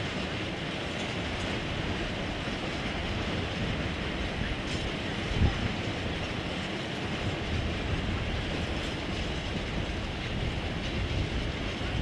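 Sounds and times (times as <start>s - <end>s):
freight train wheels clattering: 0.0s - 12.0s.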